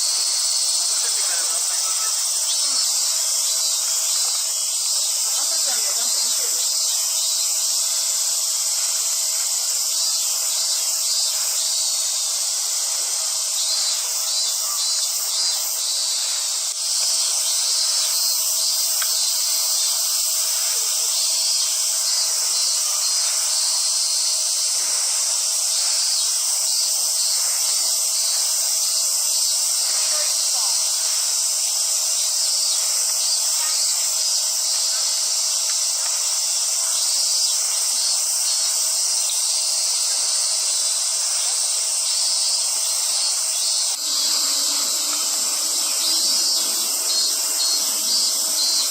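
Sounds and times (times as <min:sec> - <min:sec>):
cicadas singing: 0:00.0 - 0:48.9.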